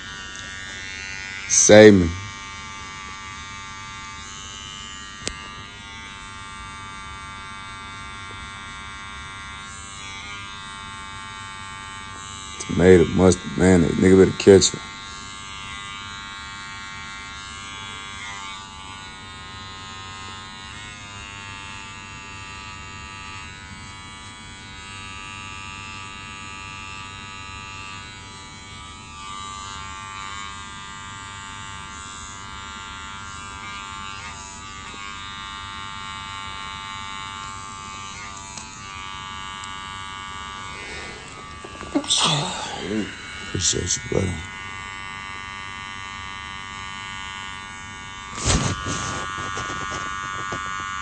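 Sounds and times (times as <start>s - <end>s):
electric hair clippers buzzing: 0.0s - 51.0s.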